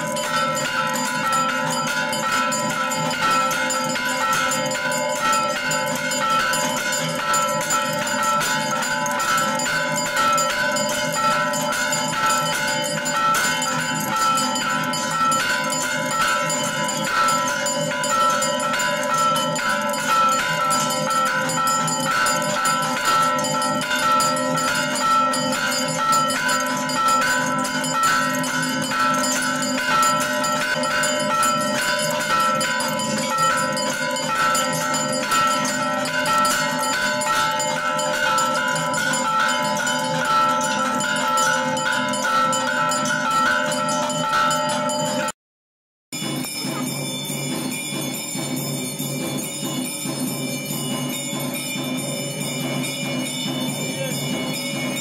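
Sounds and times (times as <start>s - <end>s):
temple bells ringing: 0.0s - 45.4s, 46.2s - 55.0s.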